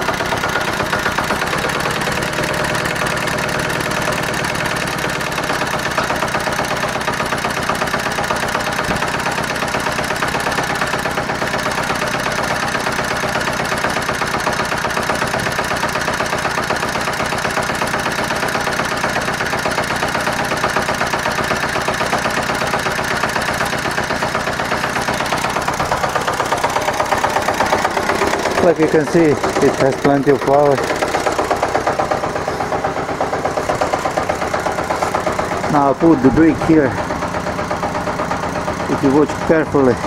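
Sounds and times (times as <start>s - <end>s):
small engine idling: 0.0s - 40.0s.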